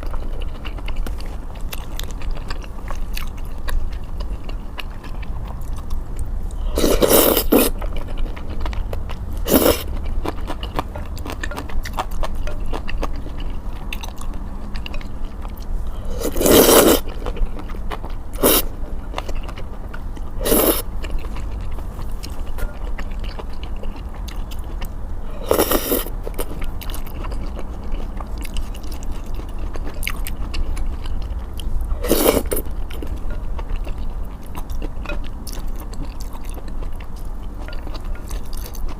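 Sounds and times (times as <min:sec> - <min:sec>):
close chewing and mouth sounds: 0:00.0 - 0:38.9.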